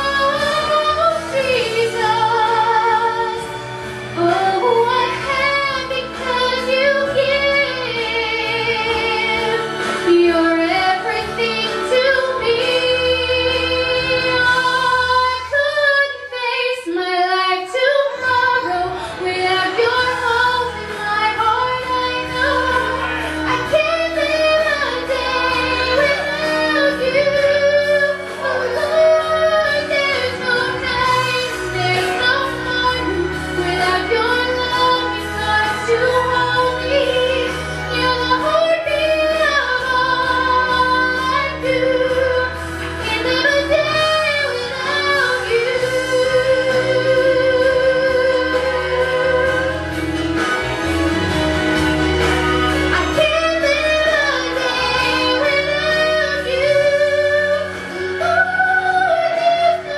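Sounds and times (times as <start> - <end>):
woman singing gospel song: 0.0 - 50.0, 52.7 - 59.9
children singing along: 0.0 - 59.9
music accompaniment: 0.0 - 59.9.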